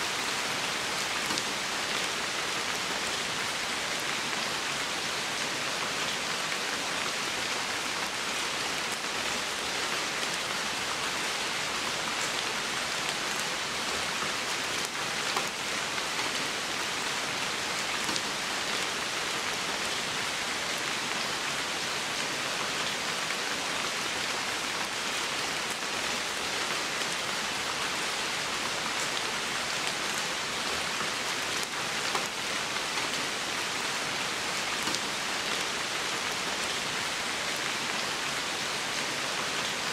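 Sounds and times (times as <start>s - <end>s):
rain on forest floor: 0.0s - 39.9s.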